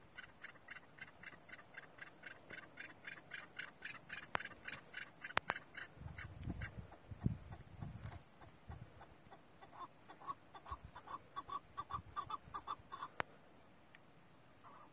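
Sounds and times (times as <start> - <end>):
partridge calling: 0.0 - 13.2, 14.6 - 14.9.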